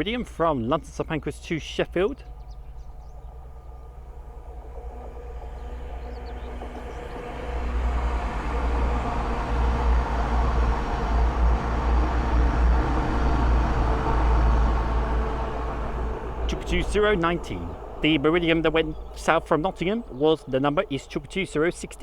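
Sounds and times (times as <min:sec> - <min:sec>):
diesel train engine drone: 0:00.0 - 0:22.0
rail and wheel noise: 0:00.0 - 0:22.0.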